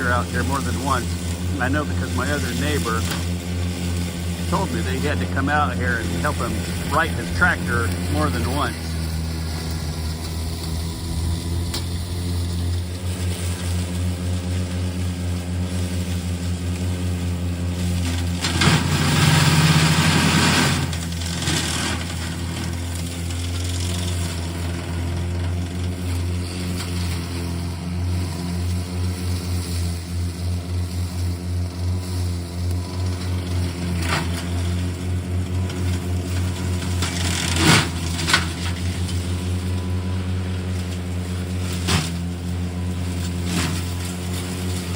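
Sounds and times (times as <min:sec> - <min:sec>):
lawn mower running: 0:00.0 - 0:44.9.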